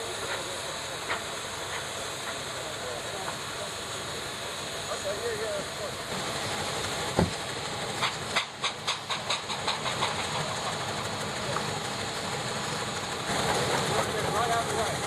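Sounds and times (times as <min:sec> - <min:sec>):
steam engine exhaust beats: 0:00.0 - 0:15.0
steam hiss: 0:00.0 - 0:15.0.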